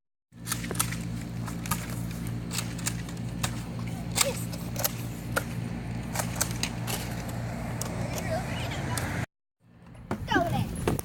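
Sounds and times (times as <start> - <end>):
steady low hum: 0.4 - 10.2.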